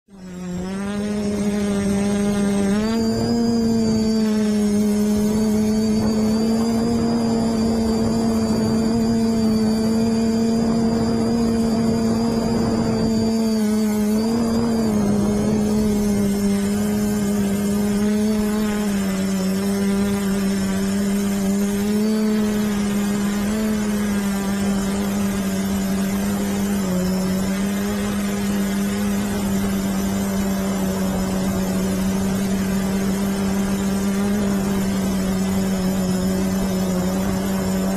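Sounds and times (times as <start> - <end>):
drone propellers buzzing: 0.0 - 37.9.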